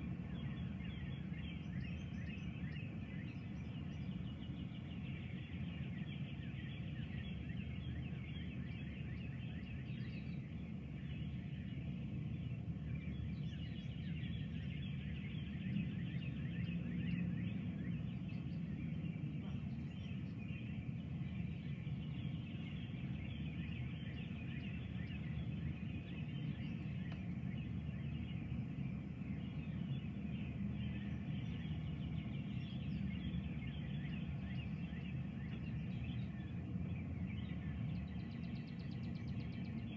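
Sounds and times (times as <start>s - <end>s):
birds calling in dawn chorus: 0.0s - 39.9s.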